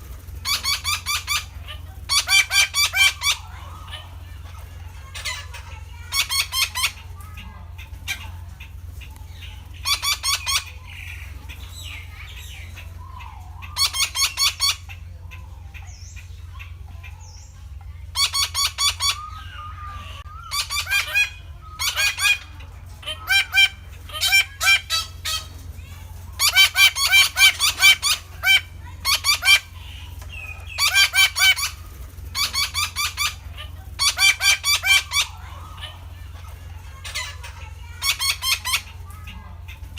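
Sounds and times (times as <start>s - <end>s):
steady low hum: 0.0s - 39.9s
parakeet calling: 0.4s - 39.9s.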